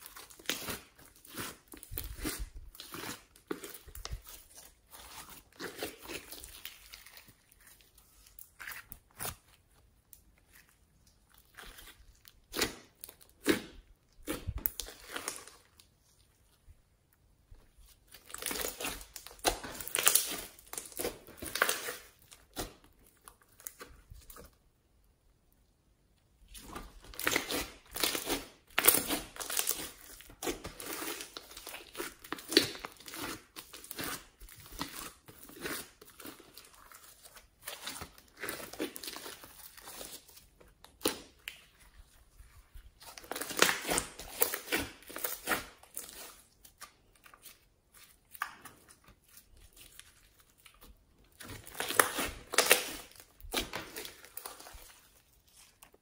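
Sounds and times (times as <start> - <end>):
slime crackling and popping: 0.0 - 15.9, 18.1 - 24.3, 26.5 - 41.8, 43.0 - 47.6, 48.2 - 56.0.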